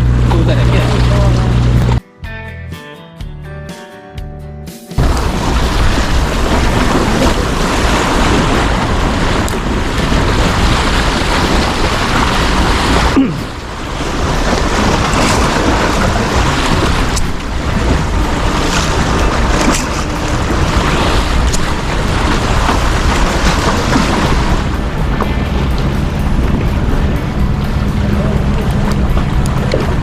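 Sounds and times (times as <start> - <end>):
sea waves: 0.0 - 2.0, 5.0 - 30.0
wind buffeting microphone: 5.0 - 30.0.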